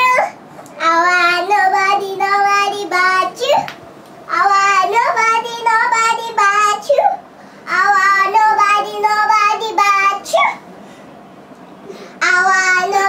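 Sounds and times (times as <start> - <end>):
toddler girl singing: 0.0 - 3.7, 4.3 - 10.6, 12.2 - 13.0.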